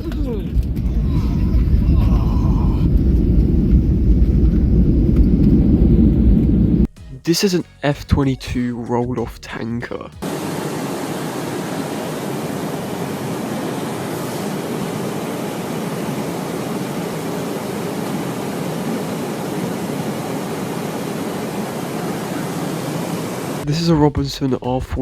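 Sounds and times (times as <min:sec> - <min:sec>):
jet aircraft rushing noise: 0:00.0 - 0:06.9, 0:10.2 - 0:23.8.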